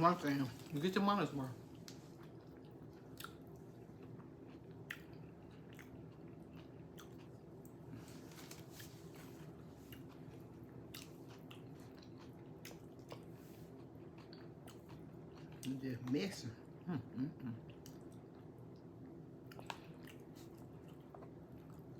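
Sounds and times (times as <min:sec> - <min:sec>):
steady low hum: 0:00.0 - 0:21.9
chewing and biting food: 0:01.8 - 0:16.8, 0:17.6 - 0:21.9.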